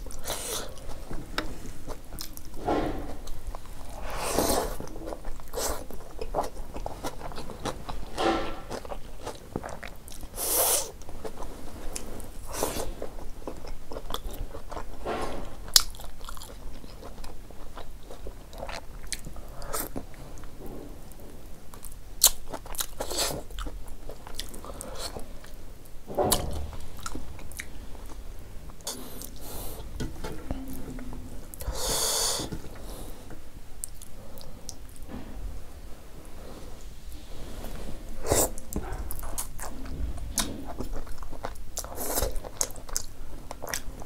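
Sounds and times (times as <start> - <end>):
person chewing: 0.0 - 20.5, 21.7 - 25.6, 26.3 - 33.1, 38.2 - 44.0.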